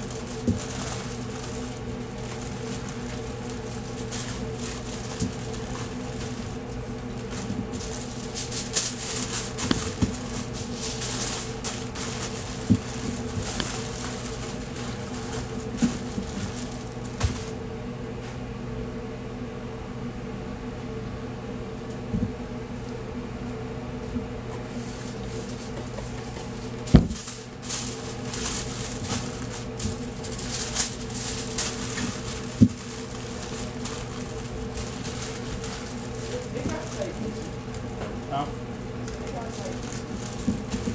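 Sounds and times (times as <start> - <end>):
aluminium foil crinkling: 0.0 - 17.6, 24.6 - 40.9
kitchen equipment hum: 0.0 - 40.9.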